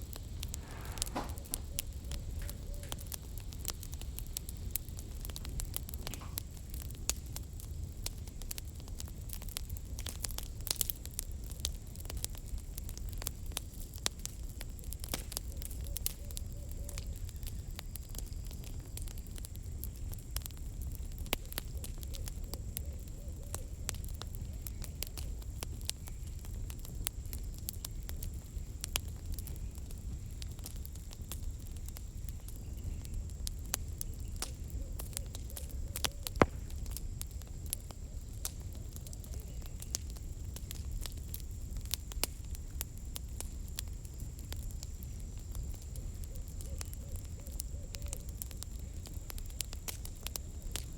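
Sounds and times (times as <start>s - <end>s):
fire low rumble: 0.0s - 50.9s
firewood snapping and popping: 0.1s - 50.9s.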